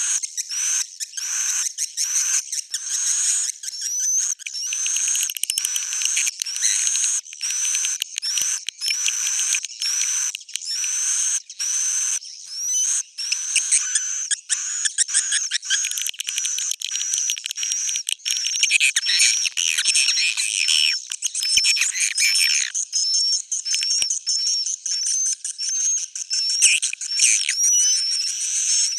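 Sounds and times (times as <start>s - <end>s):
high twittering bird chirps: 0.0s - 28.9s.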